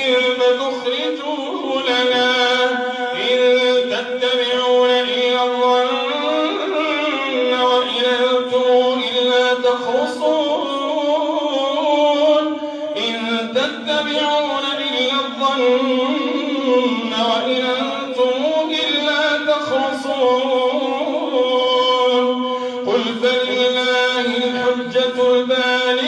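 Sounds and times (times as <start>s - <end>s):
man chanting recitation: 0.0s - 26.0s.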